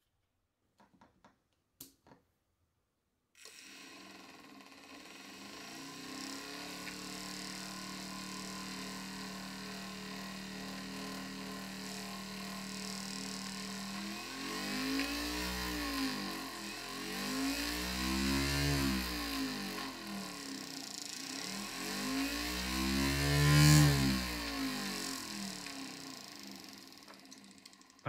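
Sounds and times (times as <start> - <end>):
electric motor whine: 3.4 - 28.0.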